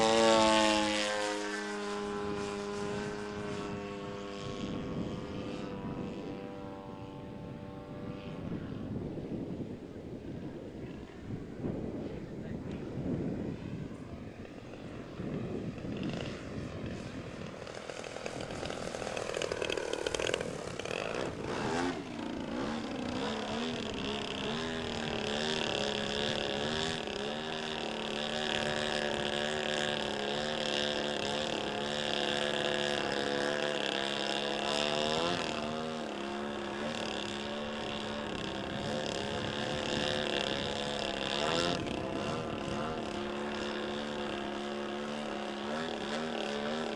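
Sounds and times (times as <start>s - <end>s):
model plane engine and propeller: 0.0s - 46.9s.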